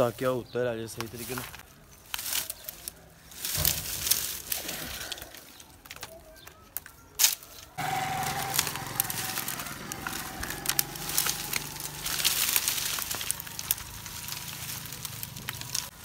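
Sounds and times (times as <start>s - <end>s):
twigs crackling as handled: 0.0s - 16.0s
branch snapping: 1.0s - 16.0s.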